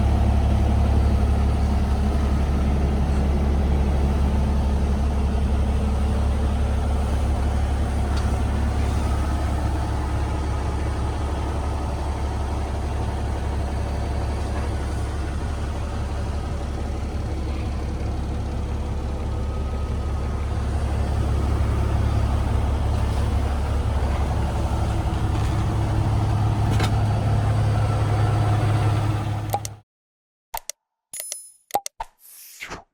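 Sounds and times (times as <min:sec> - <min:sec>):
diesel engine idling: 0:00.0 - 0:29.8.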